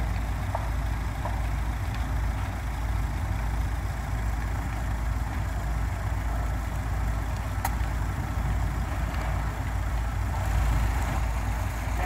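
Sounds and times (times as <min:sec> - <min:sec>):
heavy diesel engines idling: 0:00.0 - 0:12.0.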